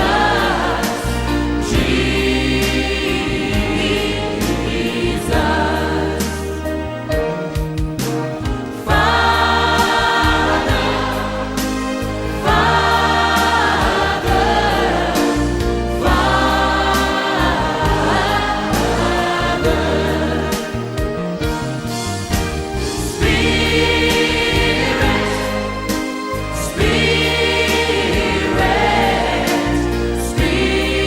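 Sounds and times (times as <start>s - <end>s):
choir singing worship song: 0.0s - 31.0s.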